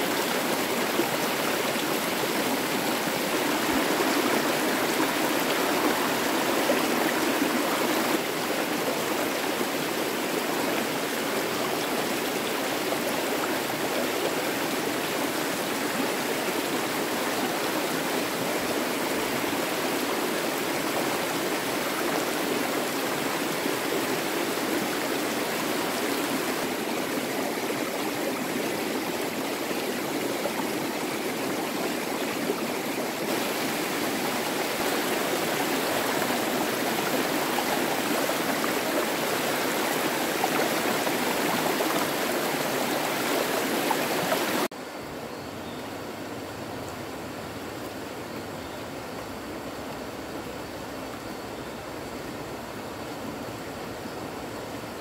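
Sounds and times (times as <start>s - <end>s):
stream water running: 0.0s - 55.0s.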